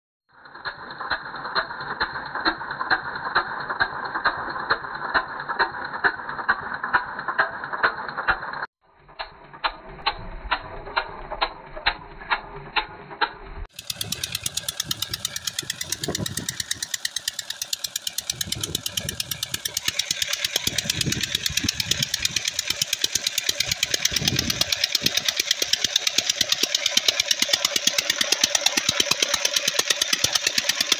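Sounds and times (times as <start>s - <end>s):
diesel engine knocking: 0.4s - 30.9s.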